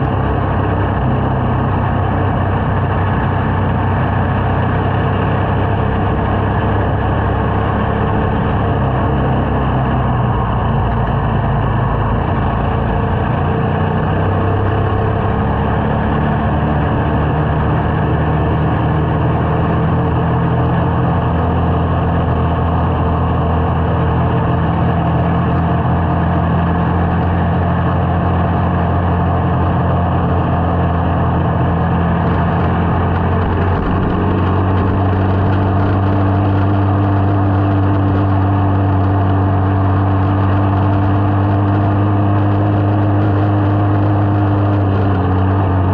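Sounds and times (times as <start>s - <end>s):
small motorcycle engine running: 0.0s - 45.9s.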